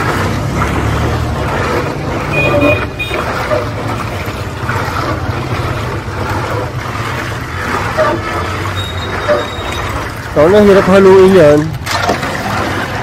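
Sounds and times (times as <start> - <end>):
low engine hum: 0.0 - 13.0
street din: 0.0 - 13.0.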